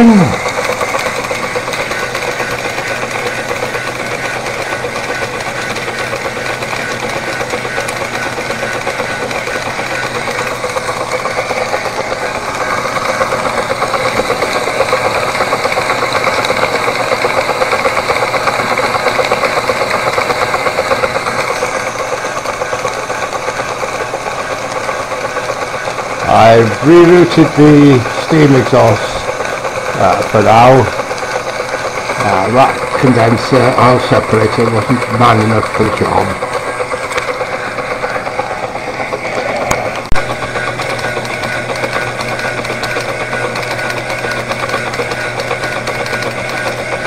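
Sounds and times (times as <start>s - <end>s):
model steam engine clattering: 0.0s - 47.0s.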